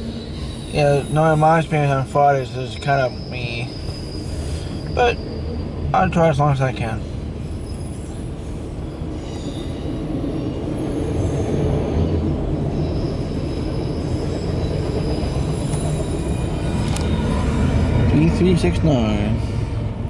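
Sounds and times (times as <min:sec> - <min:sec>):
faint high wheel squeal: 0:00.0 - 0:20.0
freight car wheels rumbling on rail: 0:00.0 - 0:20.0.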